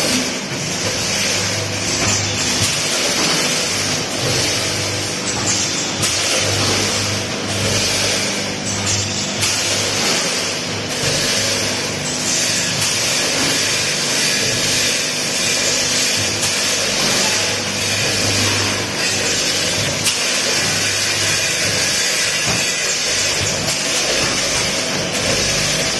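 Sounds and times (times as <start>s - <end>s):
packing machine humming: 0.0s - 25.9s.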